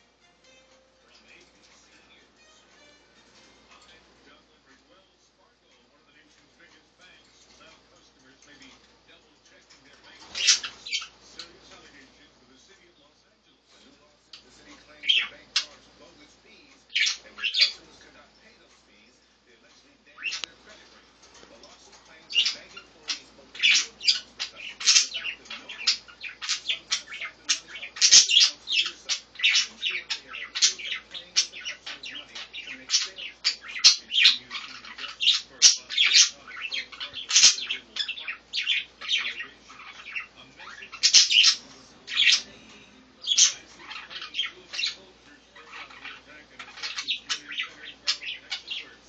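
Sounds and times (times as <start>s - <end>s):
budgerigars chirping and chattering: 0.0s - 49.0s.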